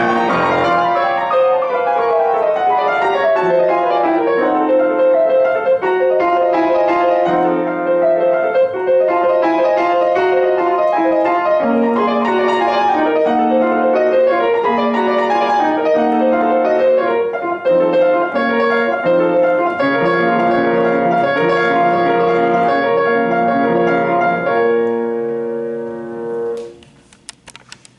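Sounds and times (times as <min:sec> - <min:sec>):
solo classical piano: 0:00.0 - 0:26.8.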